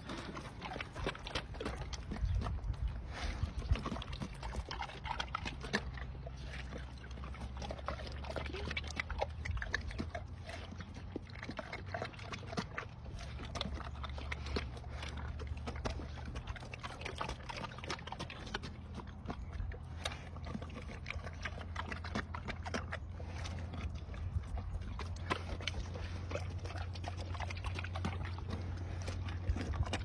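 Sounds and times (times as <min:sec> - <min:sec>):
bear chewing watermelon: 0:00.0 - 0:30.0.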